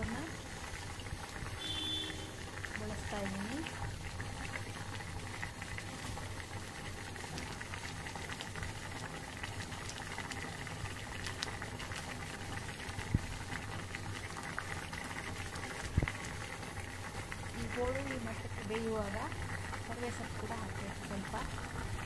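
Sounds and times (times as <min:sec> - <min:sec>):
water boiling in a pot: 0:00.0 - 0:22.0.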